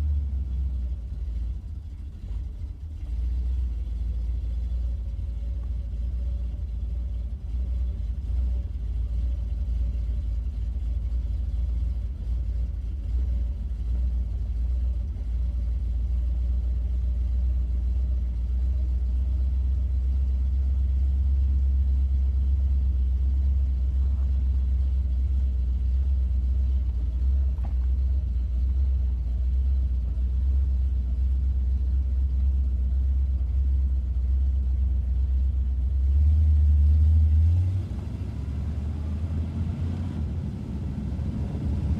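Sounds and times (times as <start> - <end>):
car engine rumbling: 0.0 - 41.9.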